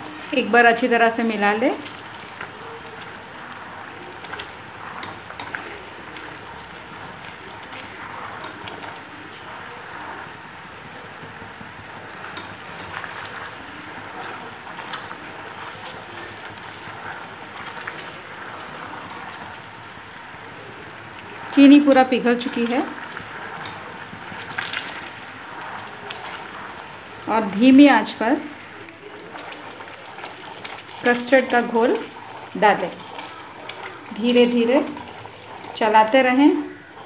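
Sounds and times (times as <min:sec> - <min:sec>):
syrup boiling and bubbling: 0:00.0 - 0:37.0.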